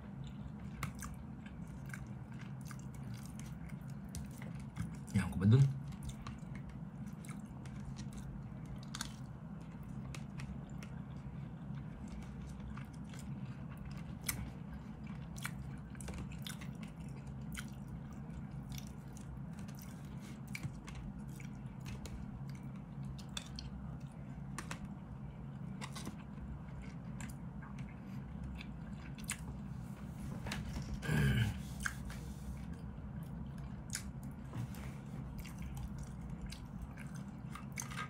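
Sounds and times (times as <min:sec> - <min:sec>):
steady low hum: 0:00.0 - 0:38.0
person chewing: 0:00.1 - 0:05.1, 0:05.8 - 0:29.7, 0:30.7 - 0:38.0.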